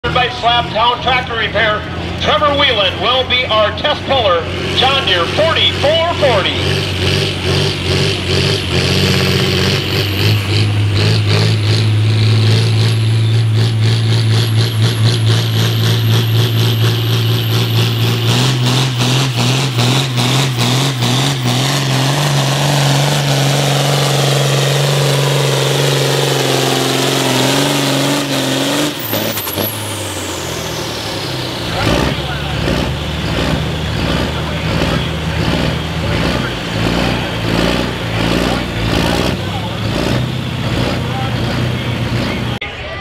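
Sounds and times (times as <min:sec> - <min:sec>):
tractor diesel engine at full throttle: 0:00.0 - 0:43.0.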